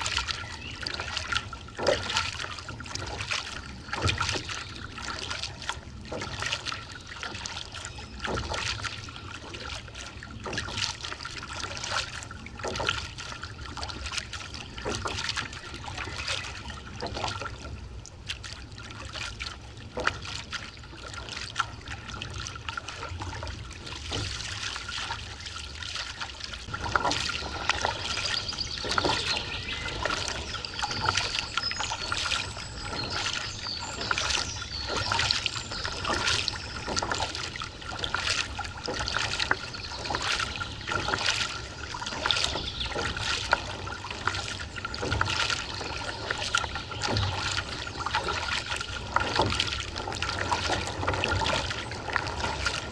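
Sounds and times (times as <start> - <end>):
paddle strokes splashing in water: 0.0 - 52.9.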